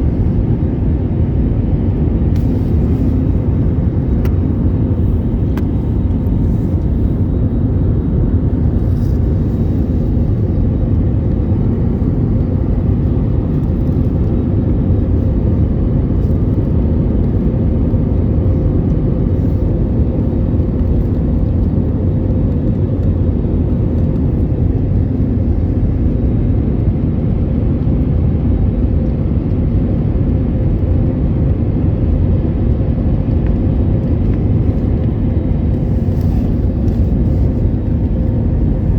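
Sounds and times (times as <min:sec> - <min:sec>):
airliner cabin engine rumble: 0:00.0 - 0:38.9
faint steady hum: 0:00.0 - 0:38.9.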